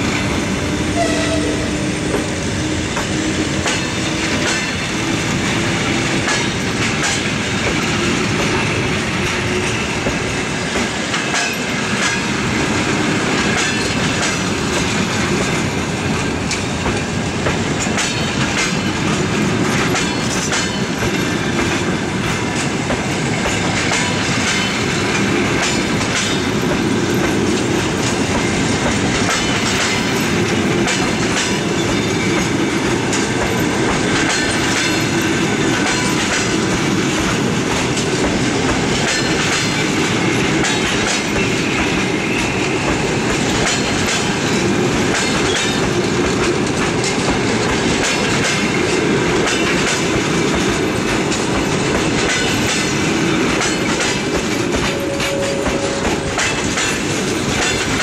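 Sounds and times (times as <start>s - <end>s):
train rumble: 0.0s - 58.0s
wheels clacking over rail joints: 0.0s - 58.0s.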